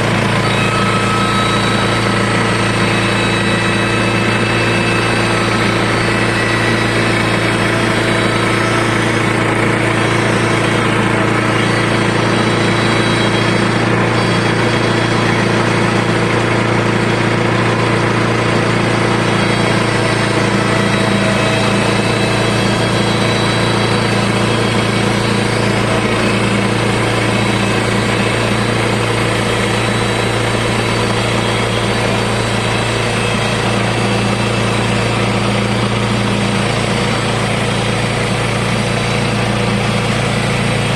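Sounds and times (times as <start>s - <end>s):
petrol engine of sawmill running: 0.0s - 40.9s.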